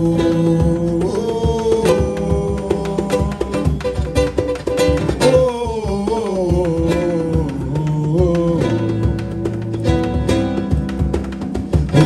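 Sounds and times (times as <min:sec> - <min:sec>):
acoustic guitar strumming: 0:00.0 - 0:12.0
hand drum beat: 0:00.0 - 0:12.0.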